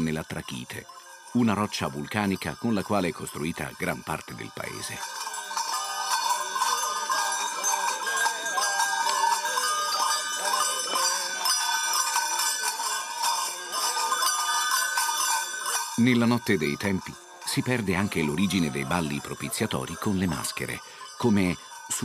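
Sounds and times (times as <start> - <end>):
small bells jingling: 0.0 - 22.0
wavering melody: 0.0 - 22.0.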